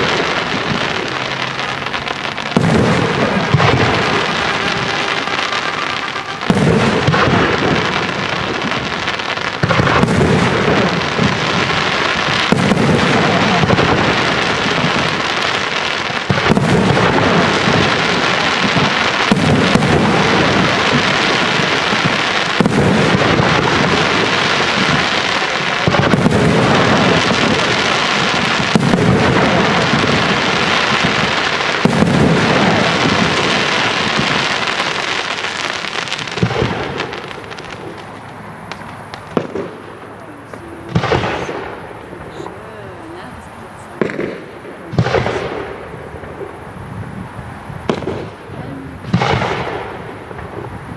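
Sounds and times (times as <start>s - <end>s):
firework shells bursting: 0.0s - 42.6s
hiss of falling firework stars: 0.0s - 50.9s.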